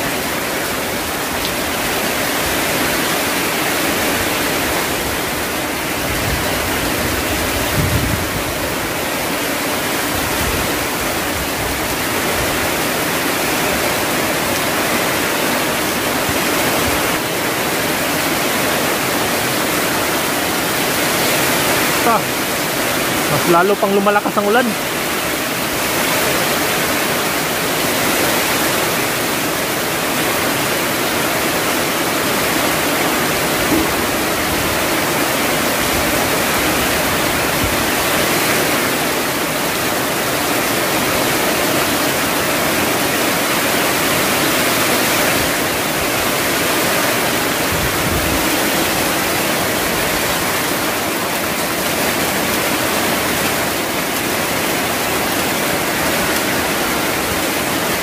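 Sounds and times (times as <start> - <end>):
torrential rain pouring: 0.0 - 58.0.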